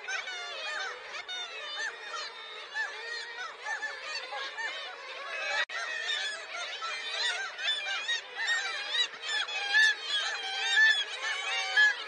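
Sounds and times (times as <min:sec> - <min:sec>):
seabird colony calling: 0:00.0 - 0:12.0.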